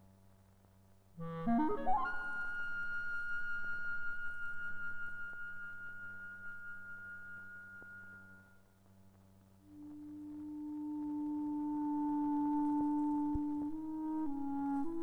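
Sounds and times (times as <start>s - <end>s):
steady low hum: 0.0s - 15.0s
solo clarinet: 1.2s - 8.6s, 9.6s - 15.0s.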